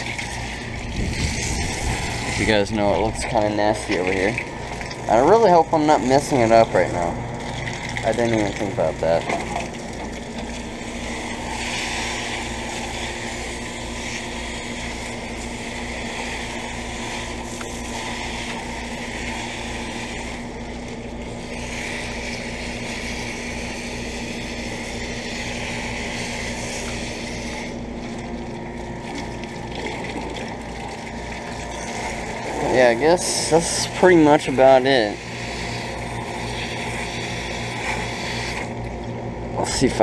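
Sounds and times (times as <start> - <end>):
air conditioner unit humming: 0.0 - 40.0.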